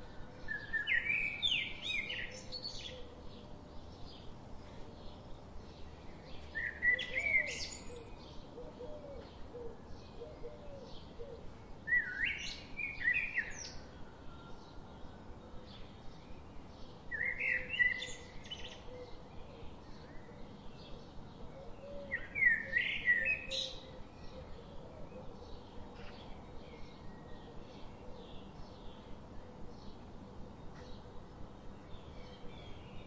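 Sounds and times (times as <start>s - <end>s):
birds singing: 0.0s - 33.0s
faint outdoor background: 0.0s - 33.0s.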